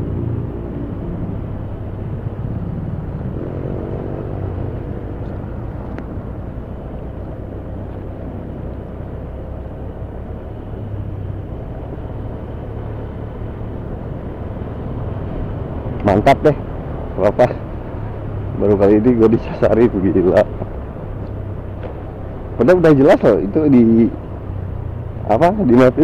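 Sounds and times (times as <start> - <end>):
motorcycle engine and road rumble: 0.0 - 26.0.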